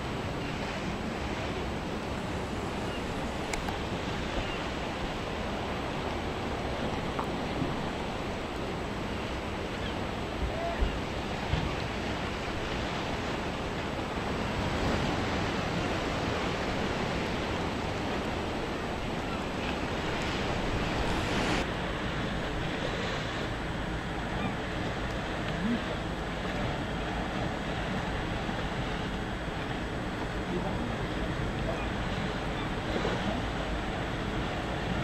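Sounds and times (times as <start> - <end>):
sea: 0.0 - 35.0
wind: 0.0 - 35.0
wind on microphone: 0.0 - 35.0.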